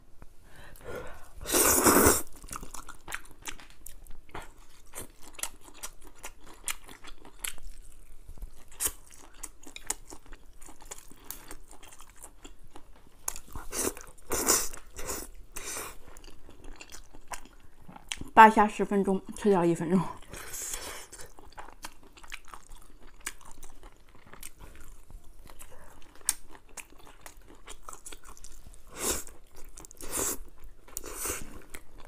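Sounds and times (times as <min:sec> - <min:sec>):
person chewing and biting: 0:01.5 - 0:18.3, 0:21.1 - 0:32.0.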